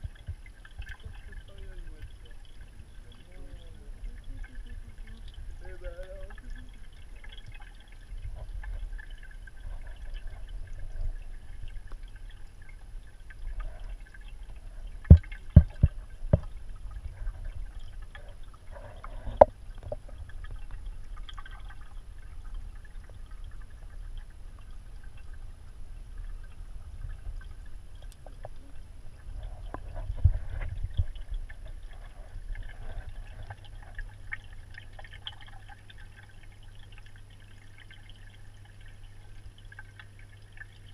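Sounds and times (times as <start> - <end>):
aquarium water moving: 0.0 - 40.9
steady low hum: 0.0 - 40.9.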